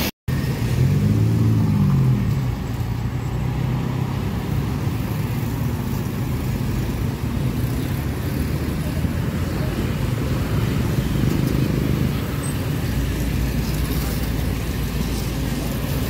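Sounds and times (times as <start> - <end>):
rumble of cars and motorcycles: 0.0 - 16.0.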